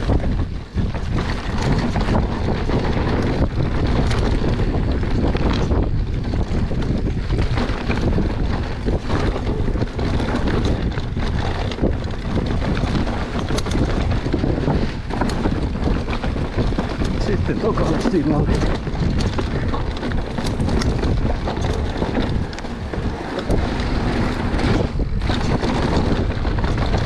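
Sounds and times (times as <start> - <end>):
bike clicks and knocks: 0.0 - 27.0
mountain bike rumble and rattle: 0.0 - 27.0
wind buffeting microphone: 0.0 - 27.0.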